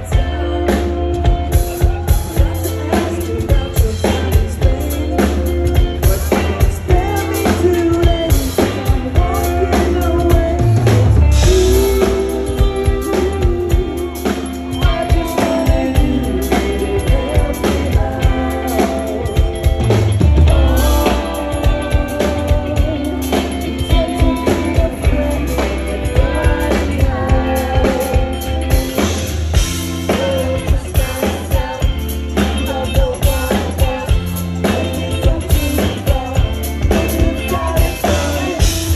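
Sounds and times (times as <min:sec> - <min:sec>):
bass guitar: 0:00.0 - 0:38.9
drum kit beat: 0:00.0 - 0:38.9
electric guitars: 0:00.0 - 0:38.9.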